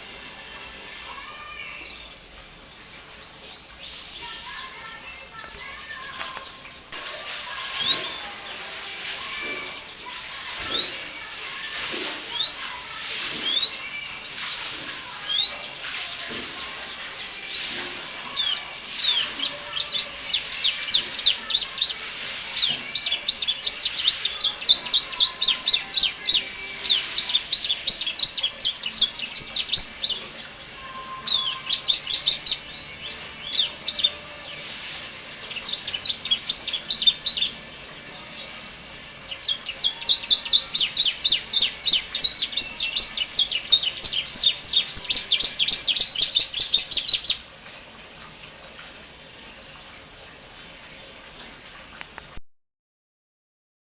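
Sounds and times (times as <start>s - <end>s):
canary singing: 0.0s - 47.5s.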